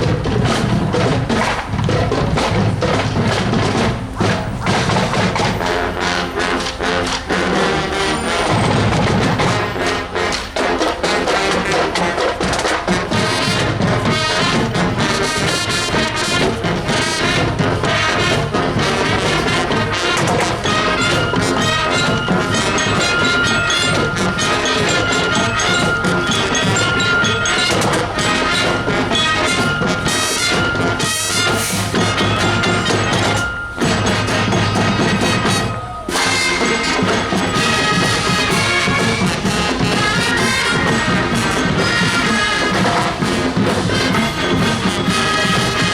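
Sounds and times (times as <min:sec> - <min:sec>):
brass: 0:00.0 - 0:45.9
marching drums: 0:00.0 - 0:45.9.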